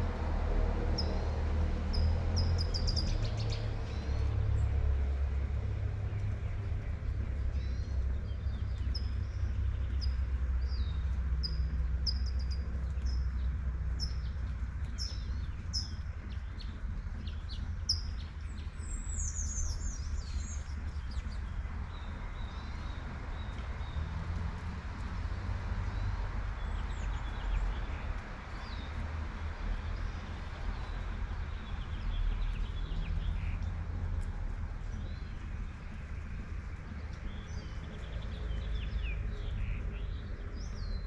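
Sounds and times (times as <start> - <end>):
low traffic rumble: 0.0 - 41.0
small birds chirping: 1.9 - 4.7, 6.9 - 25.1, 25.9 - 41.0.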